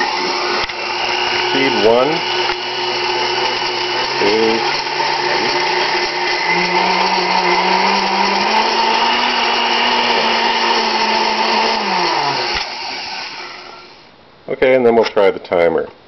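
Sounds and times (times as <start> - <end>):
blender motor running: 0.0 - 14.0.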